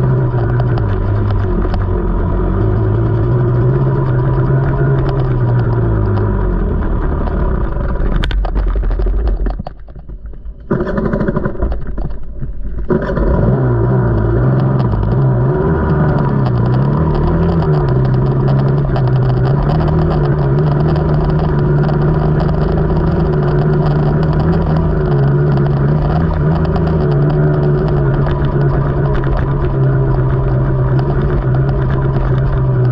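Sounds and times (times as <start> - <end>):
dirt bike engine revving: 0.0 - 8.0, 12.9 - 32.9.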